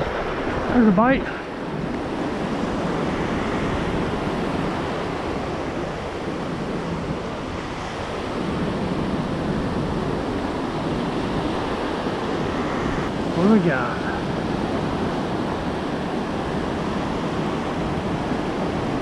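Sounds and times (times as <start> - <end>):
ocean surf breaking: 0.0 - 19.0
wind on microphone: 0.0 - 19.0.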